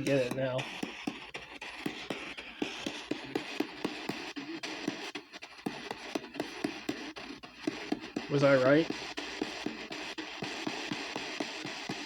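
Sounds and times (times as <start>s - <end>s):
choppy radio static: 0.0s - 12.0s
radio sweep clicks: 0.0s - 12.0s
scraps of station sound: 0.0s - 12.0s.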